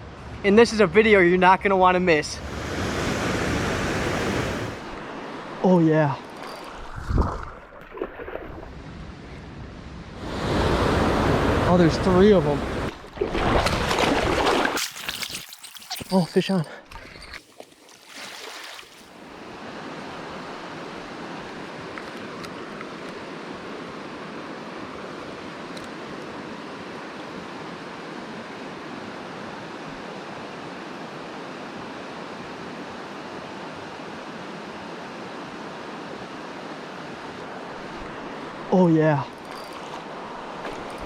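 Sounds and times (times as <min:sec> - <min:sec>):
flowing river water: 0:02.4 - 0:09.0, 0:10.2 - 0:41.0.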